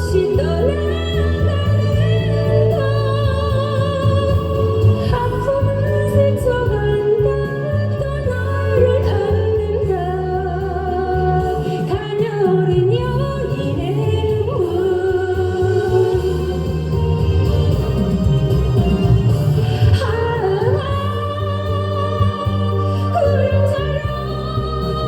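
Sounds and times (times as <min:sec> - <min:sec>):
trot song with vibrato melody: 0:00.0 - 0:25.0.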